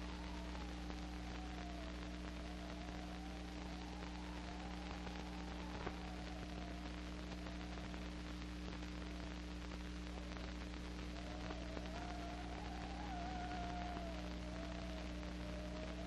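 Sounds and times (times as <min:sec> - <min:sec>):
faint wavering tone: 0:00.0 - 0:08.3, 0:10.1 - 0:16.0
film soundtrack hiss and hum: 0:00.0 - 0:16.0.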